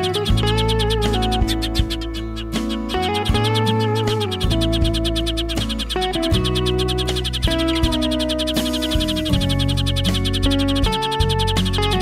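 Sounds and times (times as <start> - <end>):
background music with held notes: 0.0 - 12.0
sparrows chirping: 0.0 - 12.0.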